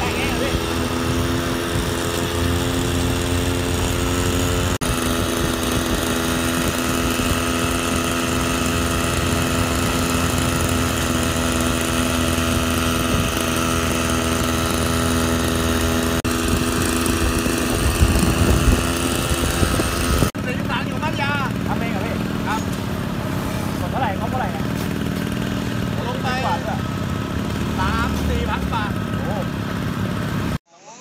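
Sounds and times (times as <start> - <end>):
small motorcycle engine humming: 0.0 - 31.0.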